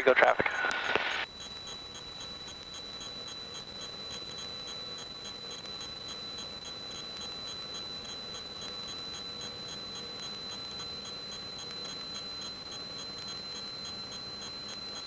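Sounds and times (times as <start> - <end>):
high-pitched electrical whine: 0.0 - 15.0.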